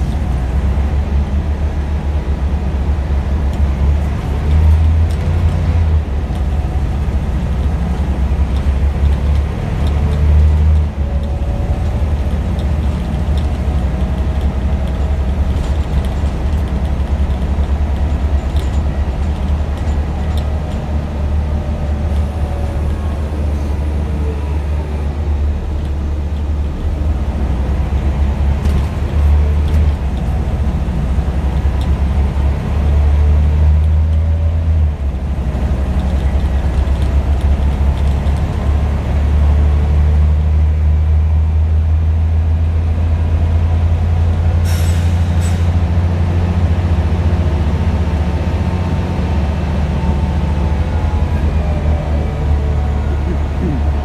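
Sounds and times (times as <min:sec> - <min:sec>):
bus diesel engine drone: 0:00.0 - 0:54.0.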